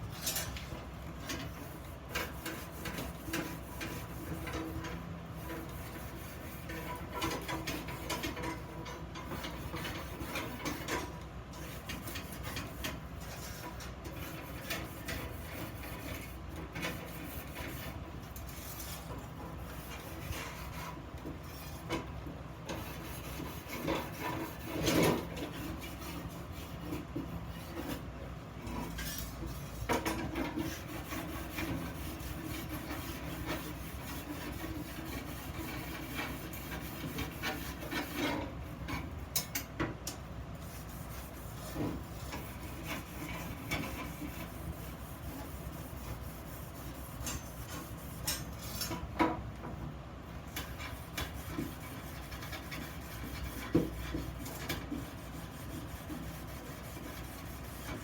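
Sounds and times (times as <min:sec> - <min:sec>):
scraping on iron: 0:00.1 - 0:39.7, 0:40.6 - 0:49.4.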